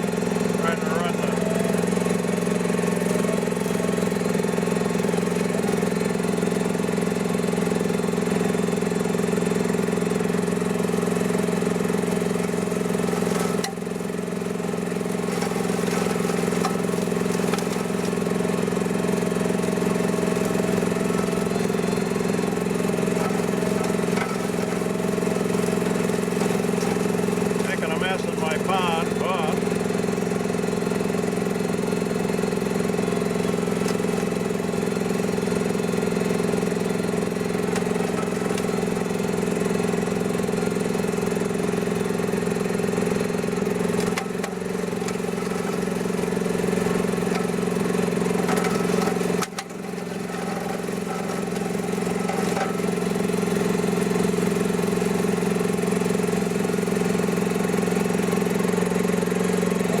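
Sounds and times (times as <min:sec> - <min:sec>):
mini excavator engine running: 0:00.0 - 1:00.0.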